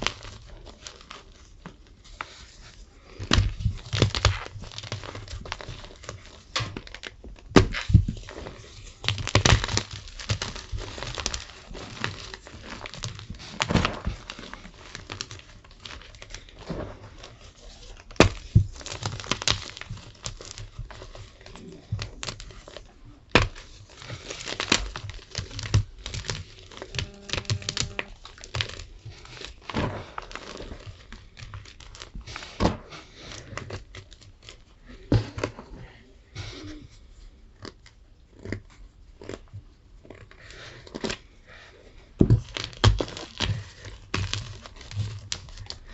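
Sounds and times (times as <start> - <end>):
chalk crunching and crumbling: 0.0 - 36.0, 36.7 - 45.9.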